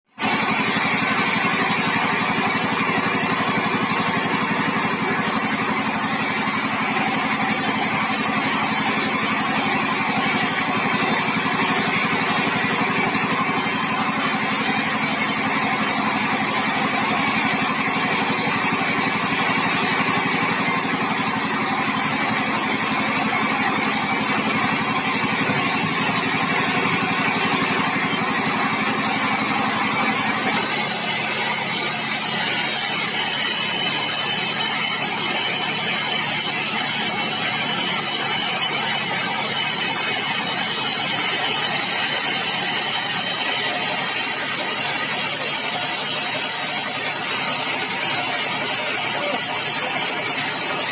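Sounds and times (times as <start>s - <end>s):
sawmill machinery drone: 0.1s - 50.9s.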